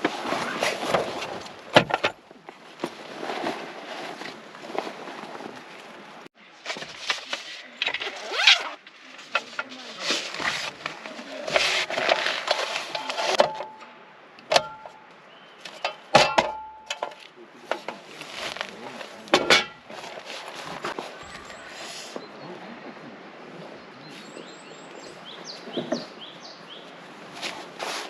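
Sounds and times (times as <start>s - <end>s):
rustling and scraping: 0.0s - 15.0s, 15.6s - 22.3s, 25.5s - 28.0s.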